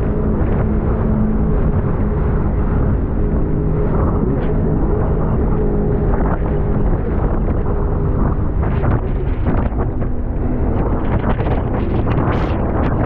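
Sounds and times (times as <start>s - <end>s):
motorboat engine running: 0.0s - 13.0s
wind buffeting microphone: 0.0s - 13.0s.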